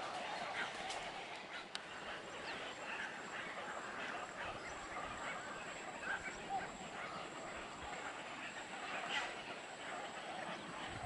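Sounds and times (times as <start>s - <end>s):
water birds calling: 0.0s - 11.0s.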